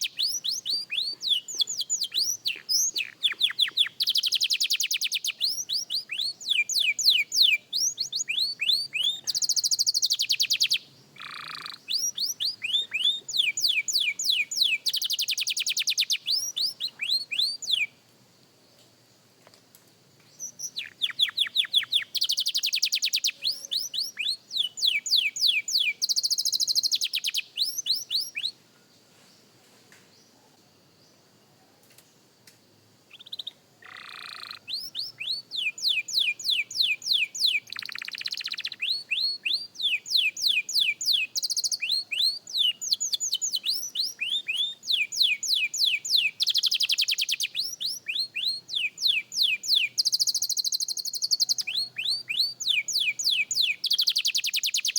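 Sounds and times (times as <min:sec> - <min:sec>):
canary singing whistled notes: 0:00.0 - 0:17.9, 0:20.3 - 0:28.6, 0:33.1 - 0:54.9.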